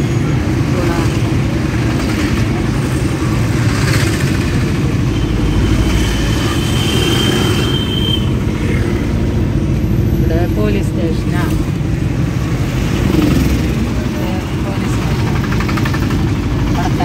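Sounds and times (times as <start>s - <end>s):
vehicle road and engine noise: 0.0s - 17.0s.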